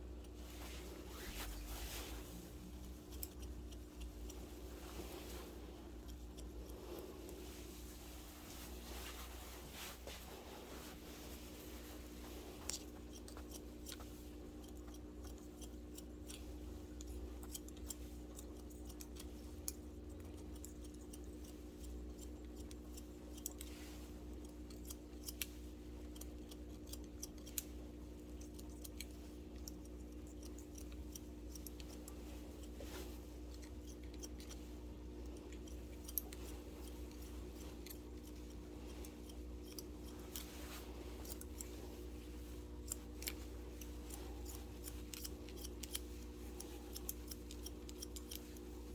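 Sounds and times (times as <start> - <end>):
shears snipping hair: 0.0 - 48.9.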